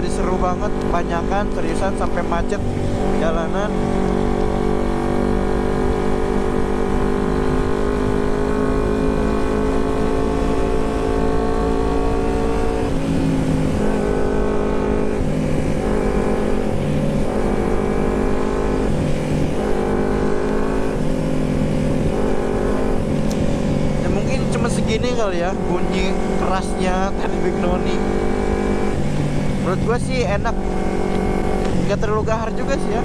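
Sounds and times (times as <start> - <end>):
motorcycle exhaust note: 0.0 - 33.0.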